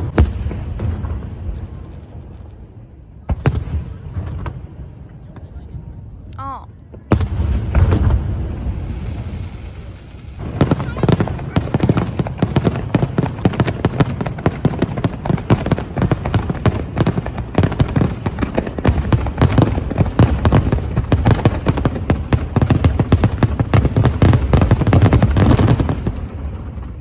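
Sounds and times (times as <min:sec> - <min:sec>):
fireworks bangs: 0:00.0 - 0:06.1, 0:06.8 - 0:27.0.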